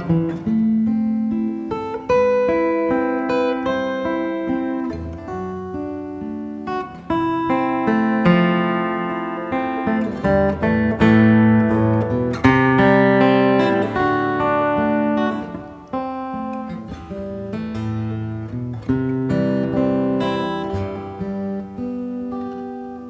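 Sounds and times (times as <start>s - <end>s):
fingerpicked acoustic guitar: 0.0s - 23.0s.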